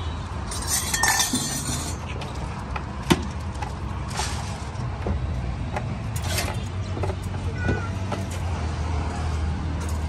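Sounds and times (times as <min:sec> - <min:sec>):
low rumble of street traffic: 0:00.0 - 0:10.0.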